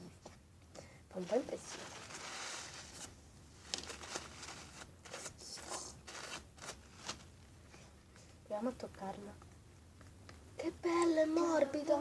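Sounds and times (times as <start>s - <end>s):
faint rustling of hands: 0.1s - 10.5s.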